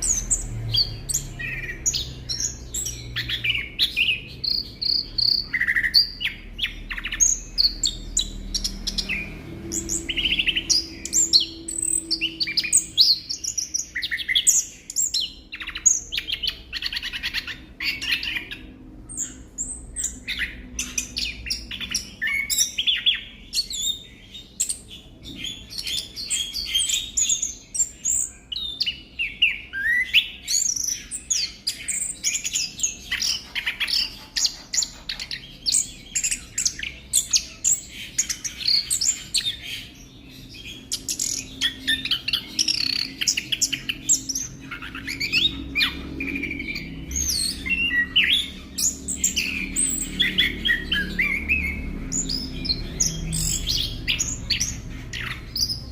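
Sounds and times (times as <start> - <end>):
thrush singing chirps and trills: 0.0 - 55.9.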